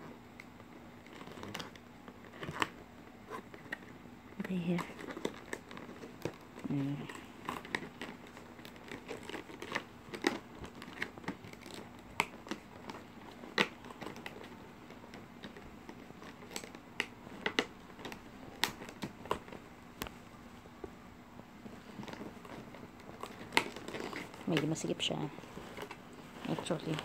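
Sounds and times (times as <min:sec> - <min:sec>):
plastic packaging crinkling: 0:00.3 - 0:20.8, 0:21.5 - 0:27.0.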